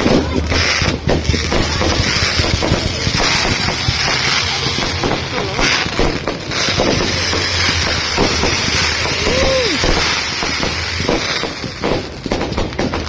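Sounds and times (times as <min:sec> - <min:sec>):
crowd talking indistinctly: 0:00.0 - 0:13.0
steady background noise: 0:00.0 - 0:13.0.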